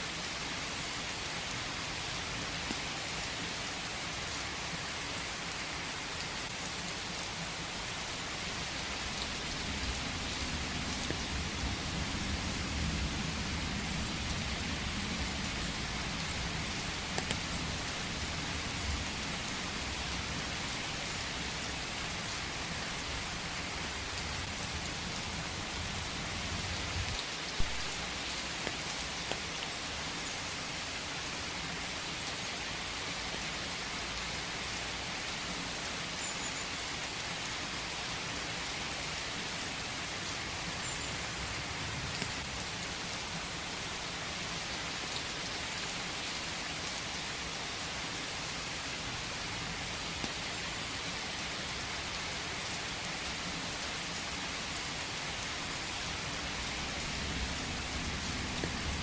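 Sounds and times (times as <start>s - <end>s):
rain falling in forest: 0.0s - 59.0s.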